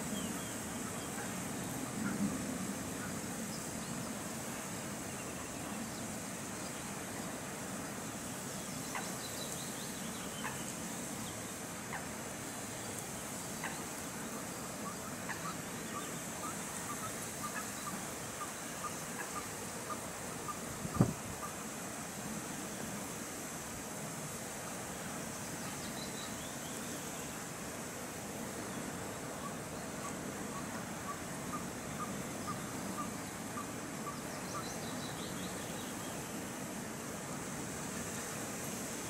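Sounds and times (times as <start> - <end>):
background hiss: 0.0 - 39.0.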